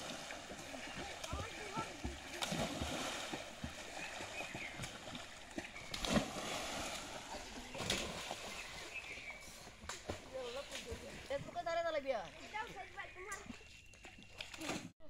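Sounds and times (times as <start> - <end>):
steady wash of water: 0.0 - 13.0
children splashing into water: 0.0 - 14.9.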